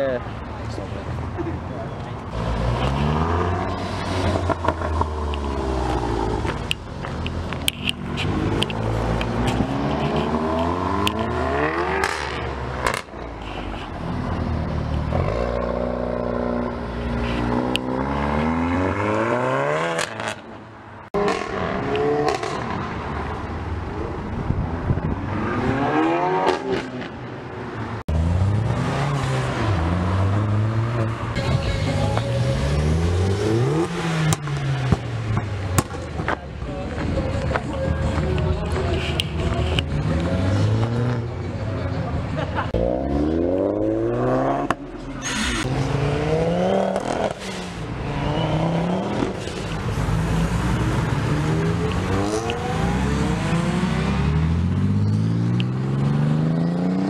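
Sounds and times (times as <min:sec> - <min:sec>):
cars accelerating: 0:00.4 - 0:57.0.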